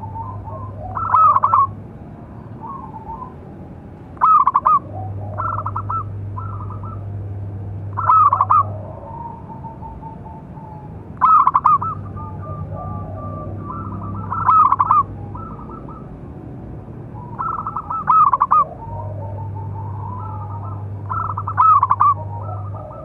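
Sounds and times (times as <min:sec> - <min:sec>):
dove cooing: 0:00.0 - 0:23.0
low steady hum: 0:00.0 - 0:23.0.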